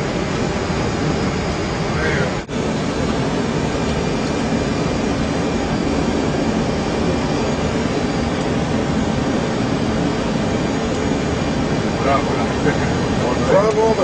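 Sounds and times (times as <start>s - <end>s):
jet engines rushing hiss: 0.0s - 14.0s.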